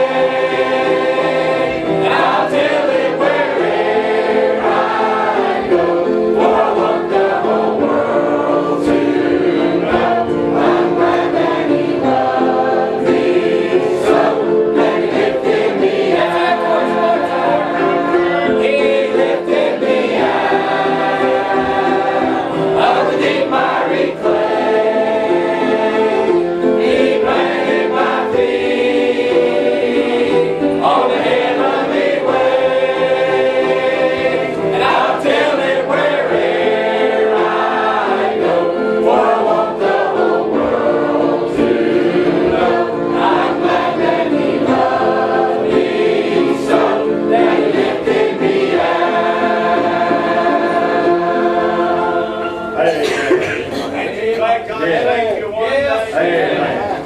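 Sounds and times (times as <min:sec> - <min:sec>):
choir singing a hymn: 0:00.0 - 0:55.2, 0:56.0 - 0:57.0.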